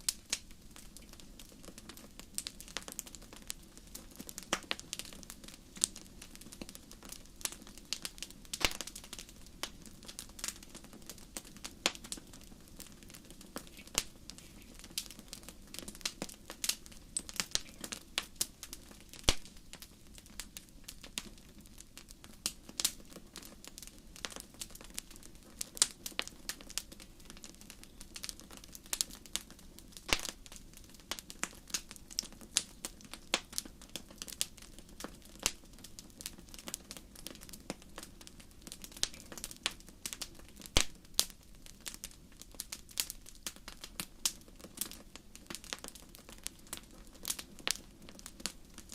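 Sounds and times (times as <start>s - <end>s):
fire crackling with pops: 0.0s - 48.9s
low steady background noise: 0.0s - 48.9s.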